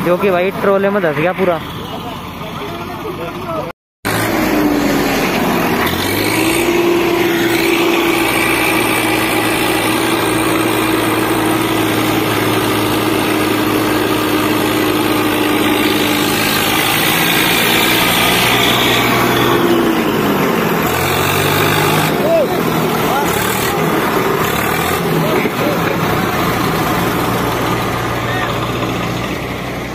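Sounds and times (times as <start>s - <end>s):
diesel tractor engine revving: 0.0s - 29.9s.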